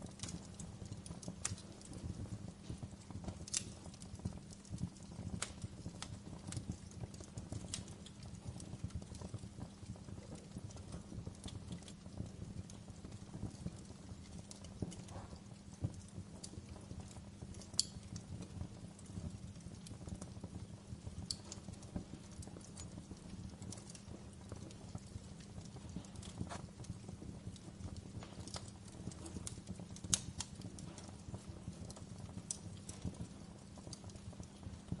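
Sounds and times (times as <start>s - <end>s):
pops and snaps of fire: 0.0s - 35.0s
wood fire crackling: 0.0s - 35.0s.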